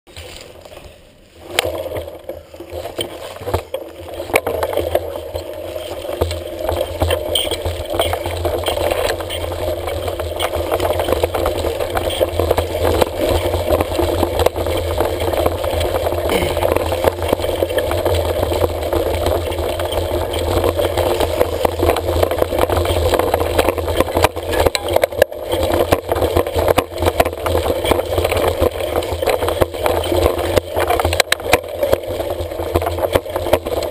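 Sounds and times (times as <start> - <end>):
bike rattling and clattering: 0.1 - 33.9
bike tyres rumbling on dirt: 0.1 - 33.9.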